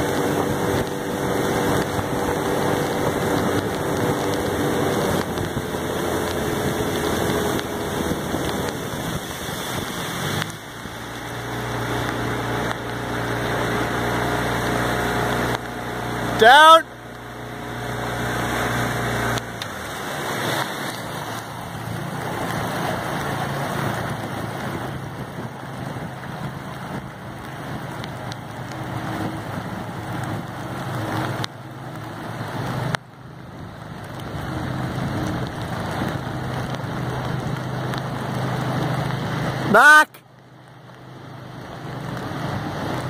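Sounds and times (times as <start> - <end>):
boat motor humming: 0.0 - 43.0
rain falling on water: 0.0 - 43.0.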